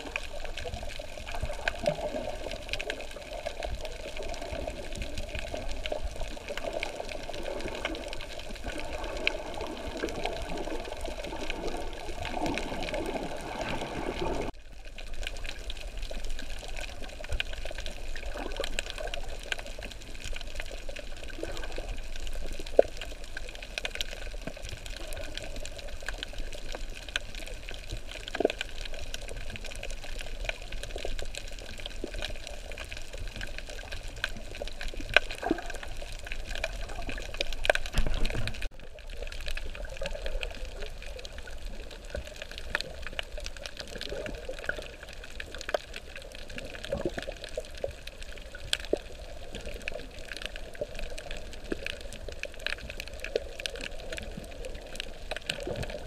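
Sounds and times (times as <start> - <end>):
faint clicks and crackles: 0.0 - 56.0
water sloshing and rushing: 0.0 - 56.0.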